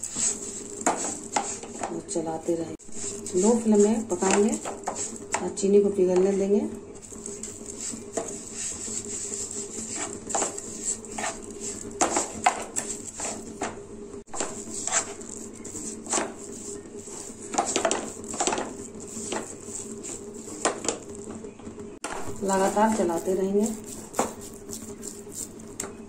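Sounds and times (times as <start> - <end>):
wooden spatula scraping pan: 0.0 - 2.2, 2.8 - 5.4, 7.0 - 21.3, 22.1 - 25.6
steady low hum: 0.0 - 26.0.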